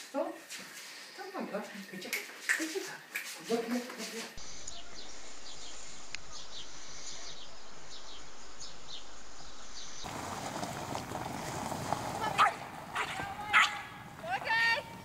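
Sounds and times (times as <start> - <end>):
rough outdoor noise: 0.0 - 15.0
small birds chirping: 0.2 - 15.0.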